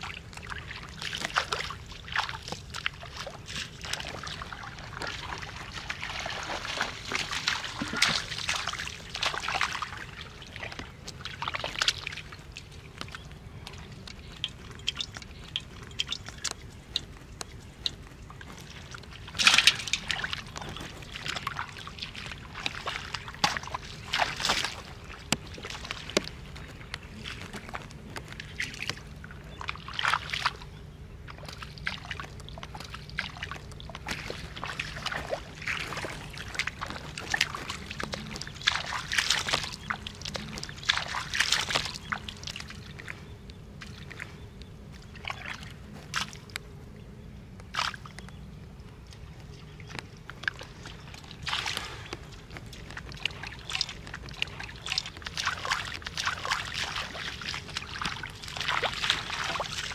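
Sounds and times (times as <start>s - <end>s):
bare feet sloshing through mud water: 0.0s - 59.9s.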